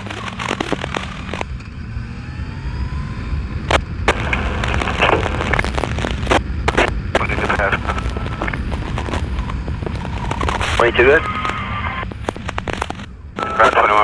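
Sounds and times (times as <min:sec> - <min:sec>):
scanner static crackling: 0:00.0 - 0:14.0
wind noise: 0:00.0 - 0:14.0.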